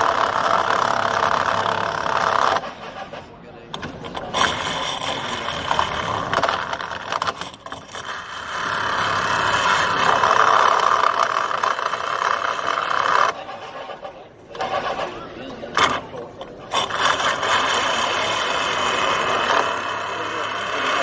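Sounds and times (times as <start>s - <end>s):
cutter grinding inside pipe: 0.0s - 21.0s.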